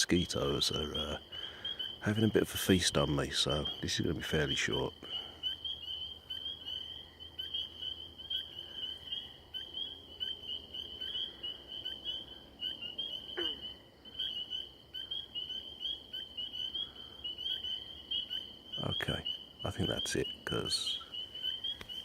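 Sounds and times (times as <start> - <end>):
spring peepers pipping: 0.0 - 22.0
tree frogs trilling: 0.0 - 22.0.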